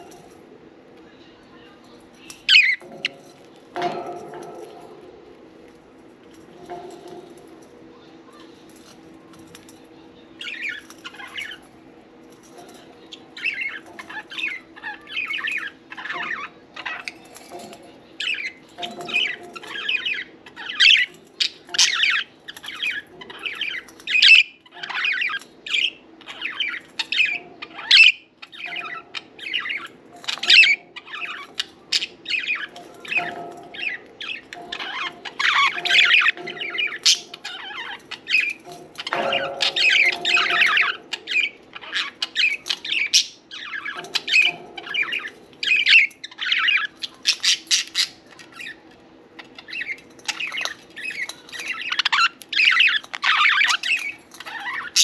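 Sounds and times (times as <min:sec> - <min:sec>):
budgies chirping and chattering: 0:00.0 - 0:00.4, 0:01.1 - 0:05.4, 0:06.3 - 0:55.0.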